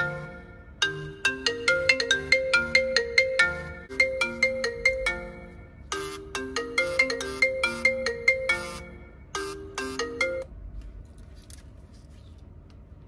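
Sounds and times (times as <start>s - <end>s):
phone ringtone with plucked notes: 0.0s - 10.5s.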